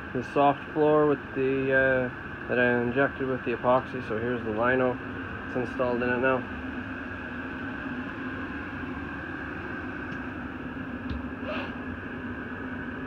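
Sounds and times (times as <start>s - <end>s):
room hum and hiss: 0.0s - 13.0s.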